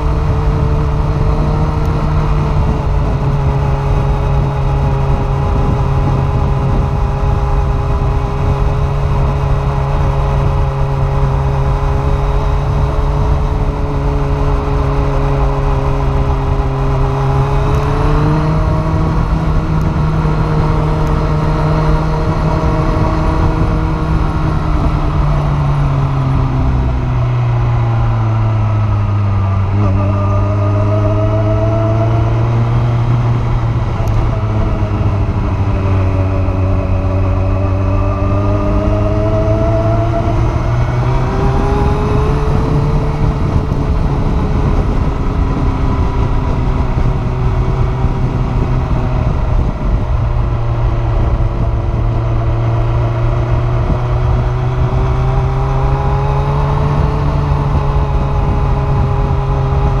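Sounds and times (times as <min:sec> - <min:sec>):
motorcycle engine cruising: 0:00.0 - 1:00.0
wind noise rushing: 0:00.0 - 1:00.0.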